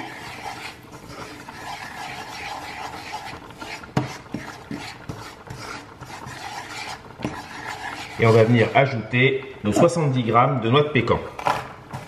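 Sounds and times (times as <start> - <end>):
wooden spoon scraping a pan: 0.0 - 10.0, 11.1 - 12.0.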